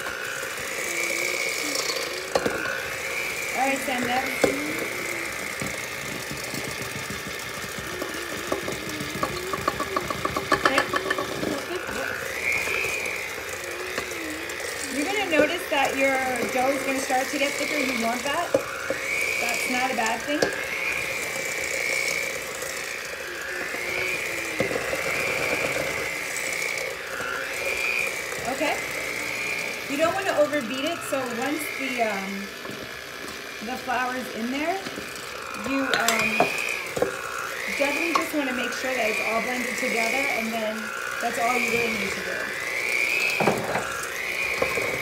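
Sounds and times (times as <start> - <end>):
electric hand mixer motor hum: 0.0 - 45.0.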